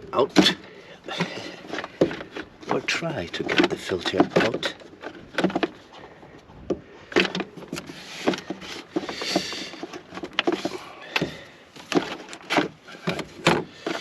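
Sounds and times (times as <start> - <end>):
air filter parts clicking and scraping: 0.0 - 14.0.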